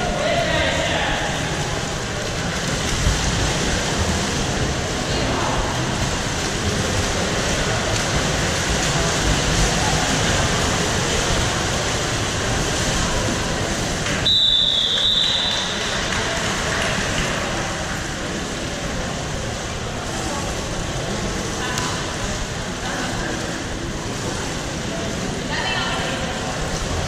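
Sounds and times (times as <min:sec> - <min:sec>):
pool water splashing and echoing: 0:00.0 - 0:27.0.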